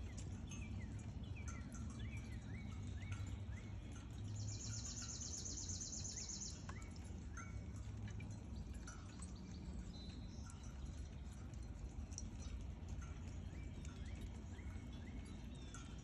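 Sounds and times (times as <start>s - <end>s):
birds chirping: 0.0s - 7.8s, 8.4s - 16.0s.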